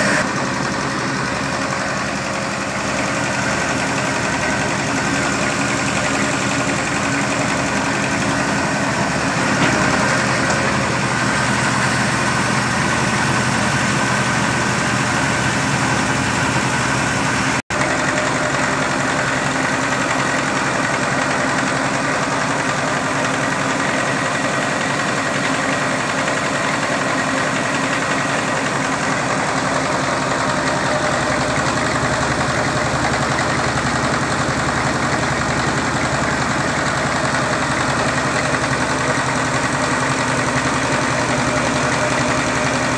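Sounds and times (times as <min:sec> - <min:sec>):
engine driving flour mill: 0:00.0 - 0:42.9.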